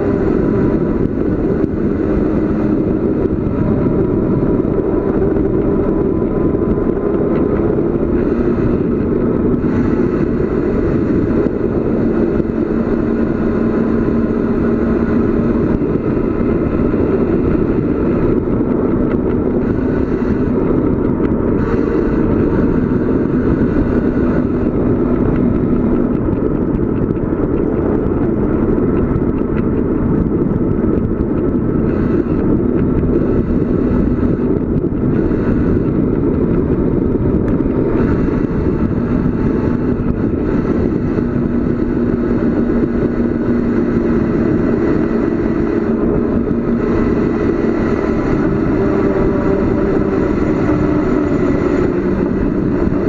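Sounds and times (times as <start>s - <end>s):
bicycle road noise: 0.0s - 53.0s
wind rushing over microphone: 0.0s - 53.0s.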